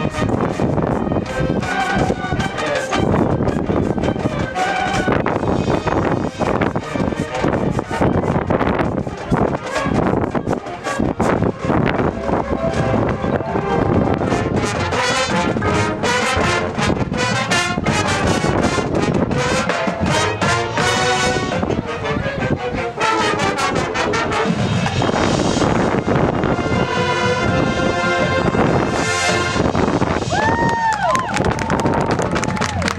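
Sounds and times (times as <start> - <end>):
marching band playing: 0.0 - 30.5
wind rumbling on microphone: 0.0 - 32.9.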